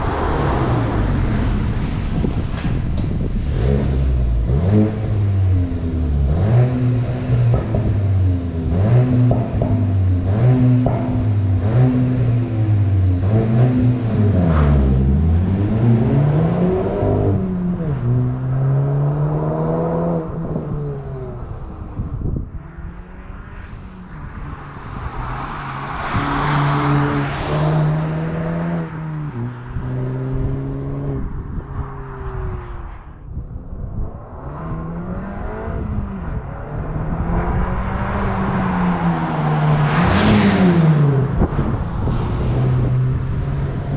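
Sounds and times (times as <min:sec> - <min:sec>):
car engine revving: 0:00.0 - 0:21.6, 0:22.4 - 0:32.9, 0:34.1 - 0:43.9.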